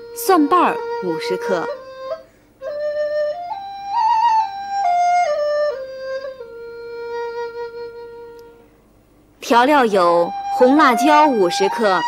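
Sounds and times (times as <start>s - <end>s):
solo flute melody: 0.0s - 8.8s, 9.5s - 12.0s.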